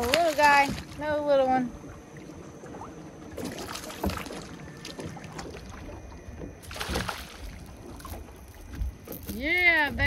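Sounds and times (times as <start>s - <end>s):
water splashing against boat: 0.0s - 10.0s.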